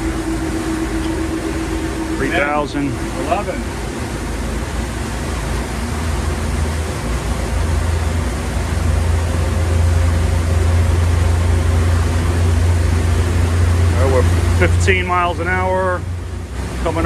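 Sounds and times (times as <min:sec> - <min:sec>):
boat engines droning: 0:00.0 - 0:17.0
rushing noise: 0:00.0 - 0:17.0.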